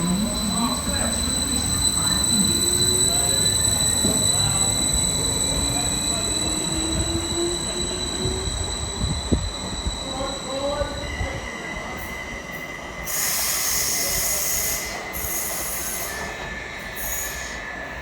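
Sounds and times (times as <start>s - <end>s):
loud hissing squeal: 0.0s - 18.0s
train passing: 0.0s - 18.0s
wheels squealing on rails: 0.0s - 18.0s.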